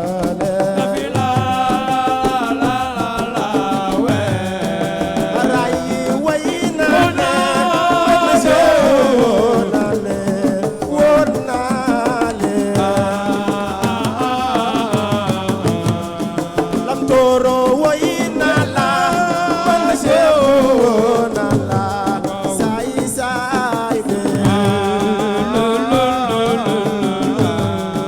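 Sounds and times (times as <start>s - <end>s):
hand drum percussion: 0.0s - 28.0s
person singing: 0.0s - 28.0s.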